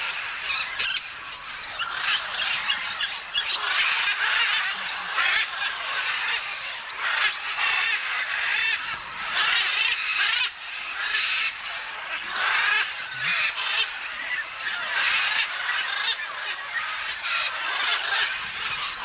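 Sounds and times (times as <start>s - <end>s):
parrots squawking: 0.0s - 19.0s.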